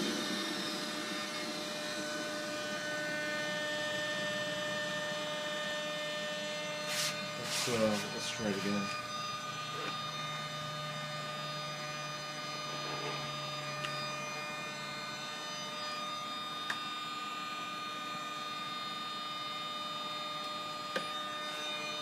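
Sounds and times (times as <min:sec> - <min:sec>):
model jet turbine whine: 0:00.0 - 0:22.0.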